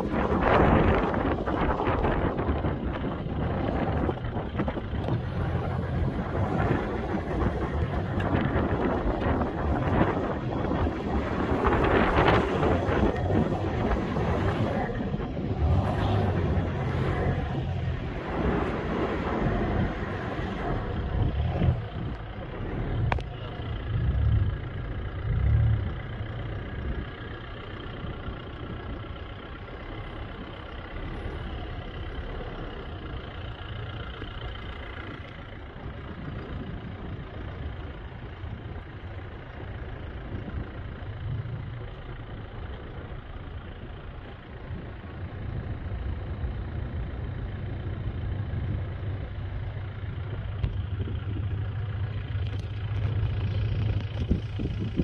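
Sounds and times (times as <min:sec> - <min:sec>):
vehicle engine and tyre rumble: 0:00.0 - 0:55.0.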